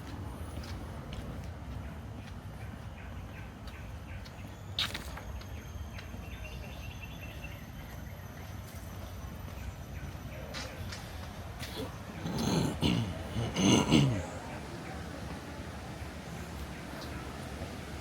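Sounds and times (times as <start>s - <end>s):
low rumble of wind: 0.0s - 18.0s.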